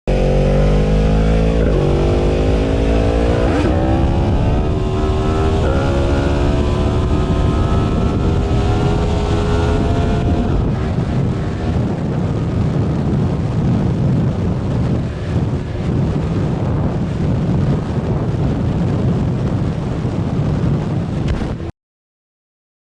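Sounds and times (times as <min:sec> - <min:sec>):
motorcycle accelerating and upshifting: 0:00.1 - 0:21.7
wind noise: 0:00.1 - 0:21.7.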